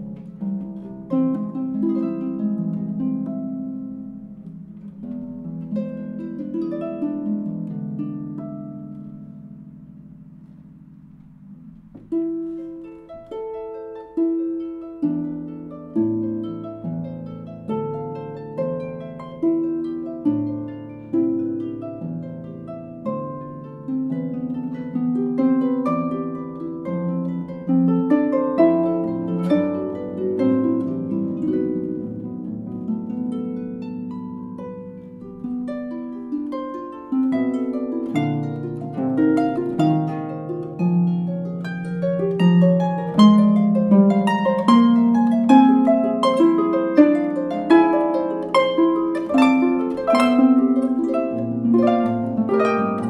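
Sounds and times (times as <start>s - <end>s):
harp plucked notes and chords: 0.0s - 53.0s.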